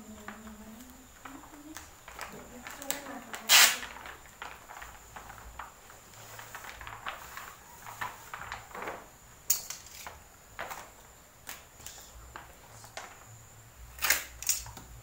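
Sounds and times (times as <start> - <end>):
plastic sheeting rustling: 0.0 - 15.0.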